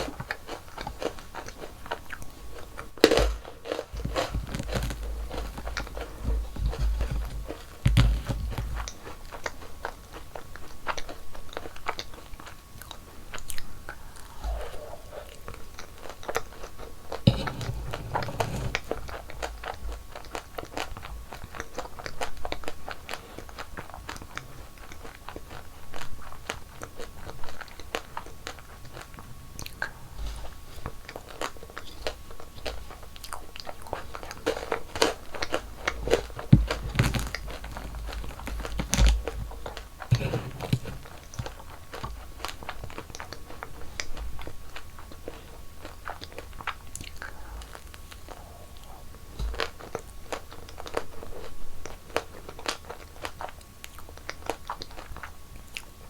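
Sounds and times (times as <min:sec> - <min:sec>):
crunchy chewing of sweets: 0:00.0 - 0:56.0.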